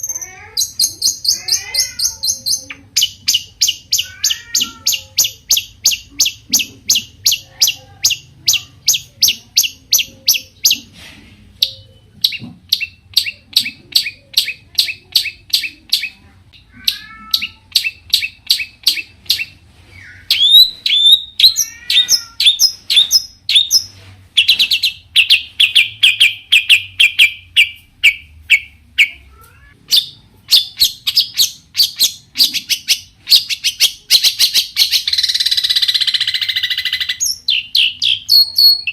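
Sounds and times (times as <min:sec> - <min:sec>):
bird chattering song: 0:00.0 - 0:11.0, 0:11.6 - 0:38.9.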